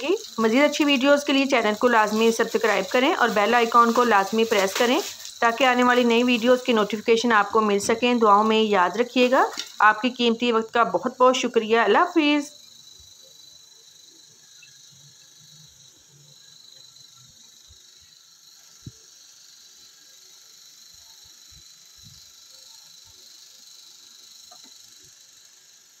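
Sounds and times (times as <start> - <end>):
high-pitched background hiss: 0.0 - 26.0.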